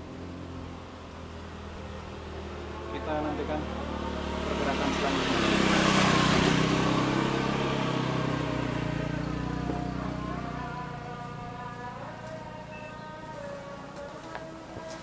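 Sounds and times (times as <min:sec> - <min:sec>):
diesel engine buzzing drone: 0:00.0 - 0:14.9.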